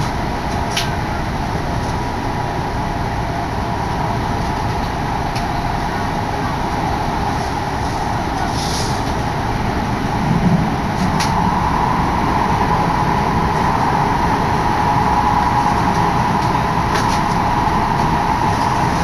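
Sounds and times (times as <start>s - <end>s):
constant hum: 0.0s - 19.0s
train wheels rumbling on rails: 0.0s - 19.0s.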